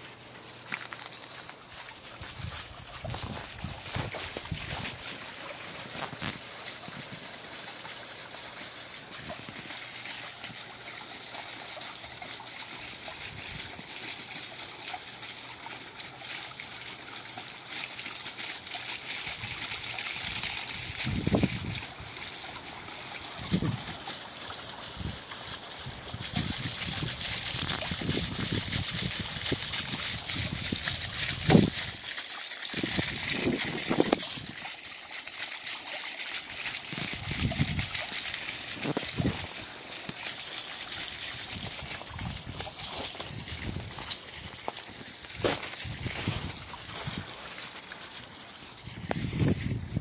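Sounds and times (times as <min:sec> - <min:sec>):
fountain splashing into pond: 0:00.0 - 0:50.0.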